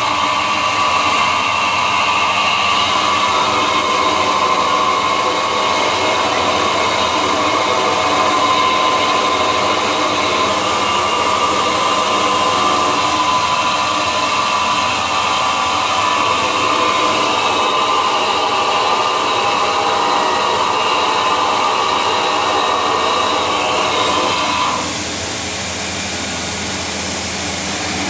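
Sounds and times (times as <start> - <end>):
machine running with high whine: 0.0 - 28.0.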